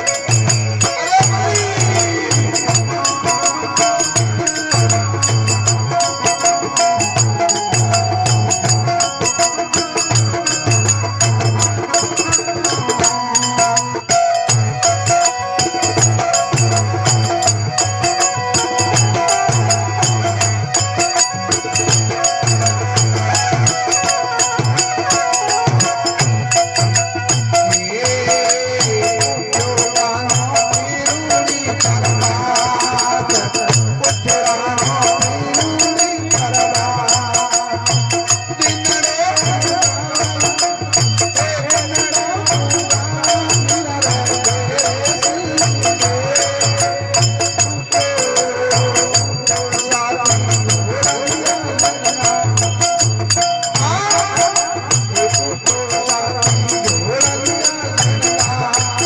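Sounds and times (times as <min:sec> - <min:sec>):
jingling percussion: 0:00.0 - 0:59.0.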